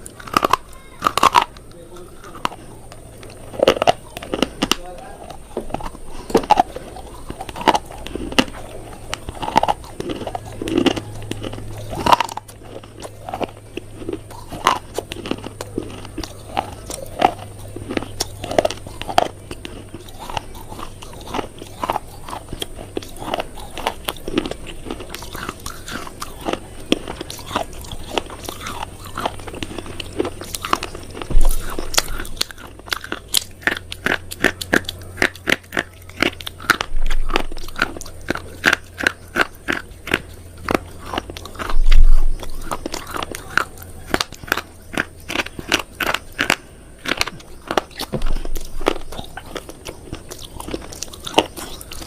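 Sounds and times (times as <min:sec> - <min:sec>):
faint low hum: 0:00.0 - 0:52.0
person chewing crunchy food: 0:00.0 - 0:52.0.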